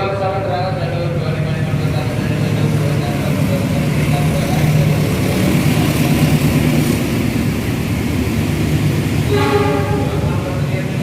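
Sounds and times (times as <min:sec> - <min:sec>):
train engine humming: 0:00.0 - 0:11.0.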